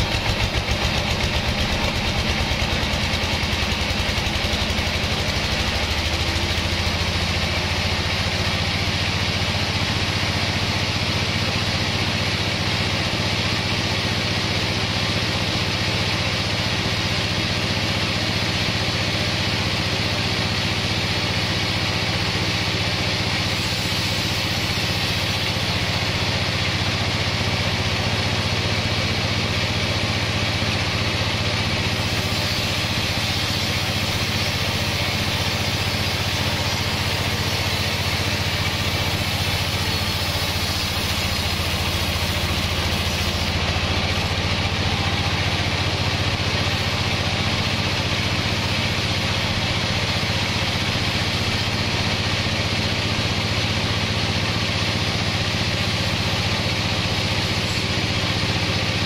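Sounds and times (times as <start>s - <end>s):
band sawmill droning: 0.0s - 59.0s.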